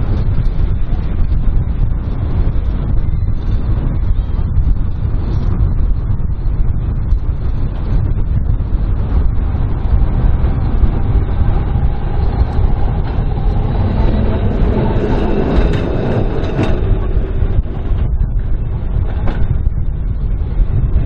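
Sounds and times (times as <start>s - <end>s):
wind rumble on microphone: 0.0s - 21.0s
tram wheels on rail: 3.6s - 21.0s.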